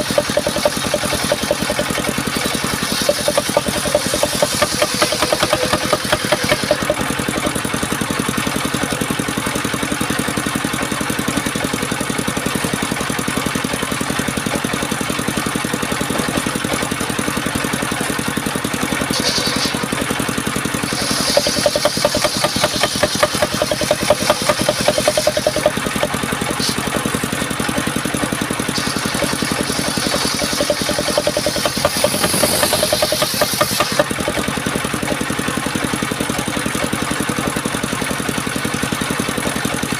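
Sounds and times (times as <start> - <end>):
saw engine running: 0.0 - 39.9.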